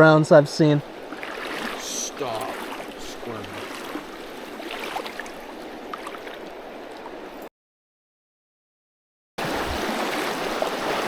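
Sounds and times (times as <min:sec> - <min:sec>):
creek water running: 0:00.0 - 0:07.5, 0:09.4 - 0:11.0.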